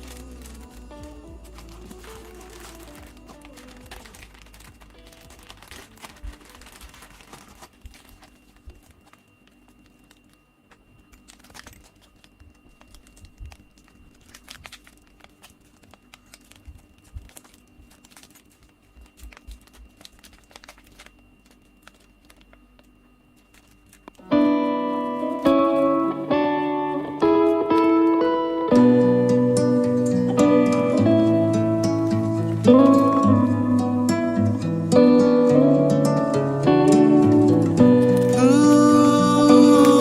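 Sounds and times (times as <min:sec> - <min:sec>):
packaging crinkling: 0:00.0 - 0:40.0.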